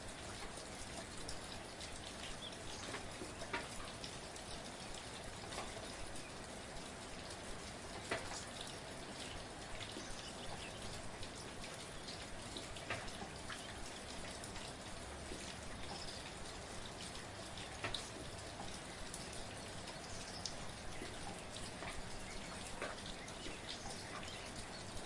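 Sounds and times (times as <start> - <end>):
raindrops ticking: 0.0 - 25.0
soft rain falling: 0.0 - 25.0.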